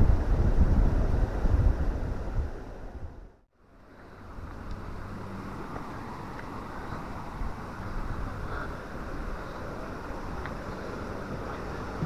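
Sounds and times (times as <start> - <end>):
wind buffeting microphone: 0.0 - 3.4, 4.0 - 12.0
outdoor background noise: 0.0 - 12.0.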